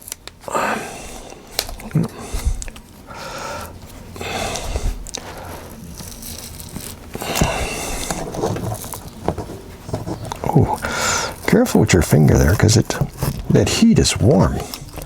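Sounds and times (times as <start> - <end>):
adhesive peeling: 0.0 - 15.0.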